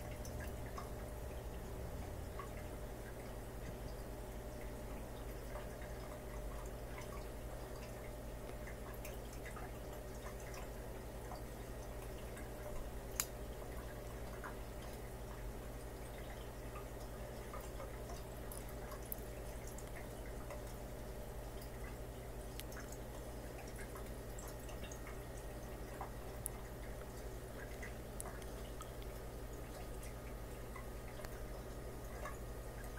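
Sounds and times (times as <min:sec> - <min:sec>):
aquarium pump hum: 0:00.0 - 0:32.9
water dripping and trickling: 0:00.0 - 0:32.9.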